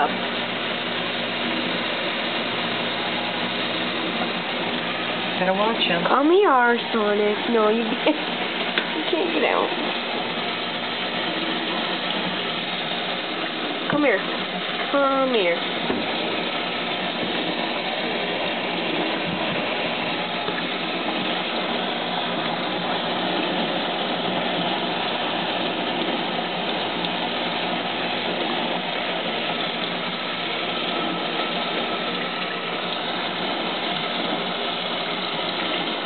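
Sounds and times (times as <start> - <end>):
tap water running into sink: 0.0 - 36.0.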